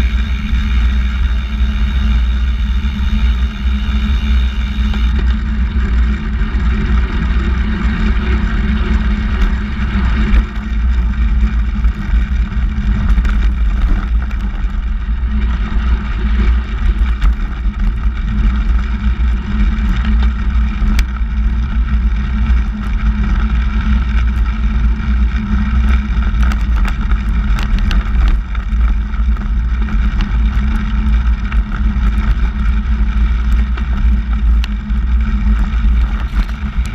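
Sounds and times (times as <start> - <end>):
tyres rolling on asphalt: 0.0 - 36.9
wind rumble on microphone: 0.0 - 36.9.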